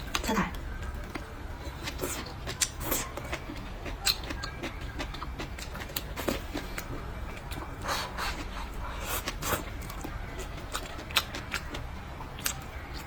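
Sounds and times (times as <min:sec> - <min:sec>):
person chewing and lip-smacking: 0:01.8 - 0:13.0.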